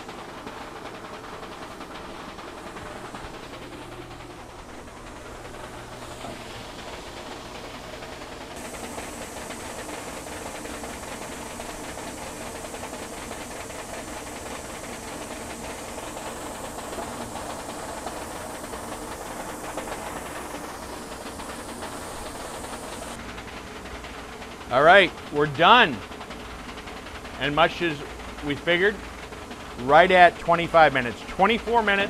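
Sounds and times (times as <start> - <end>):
print head carriage clatter: 0.0 - 32.0
printer hissing whir: 0.0 - 32.0.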